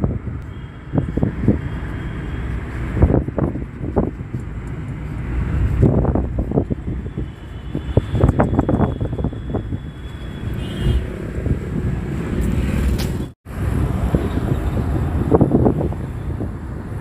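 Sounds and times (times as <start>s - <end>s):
wind buffeting microphone: 0.0s - 10.1s, 11.0s - 17.0s
car driving on road: 0.0s - 17.0s.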